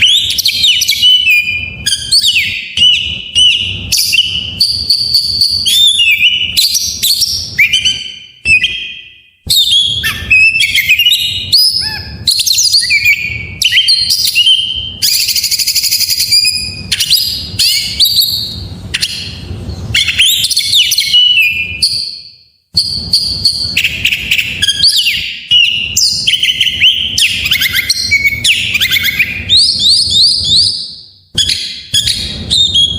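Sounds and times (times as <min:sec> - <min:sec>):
songbird whistles and trills: 0:00.0 - 0:32.9.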